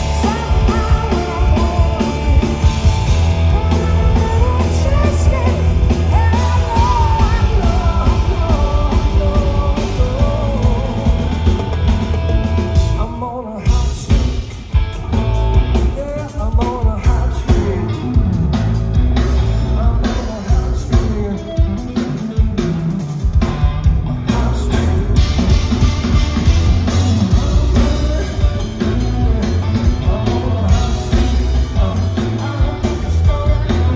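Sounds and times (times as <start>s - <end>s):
male lead vocal: 0.0s - 11.6s, 12.8s - 33.9s
bass guitar: 0.0s - 33.9s
drums: 0.0s - 33.9s
electric guitar: 0.0s - 33.9s.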